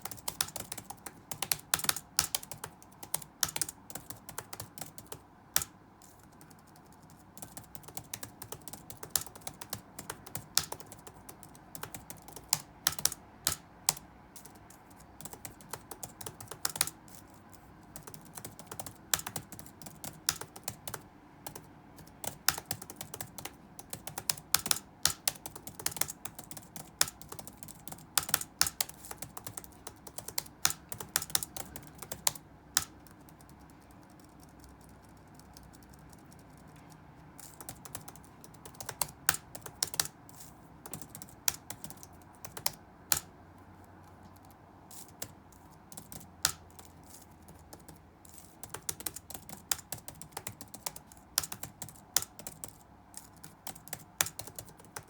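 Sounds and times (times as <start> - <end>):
faint room hum: 0.0 - 55.0
keyboard typing: 0.0 - 55.0.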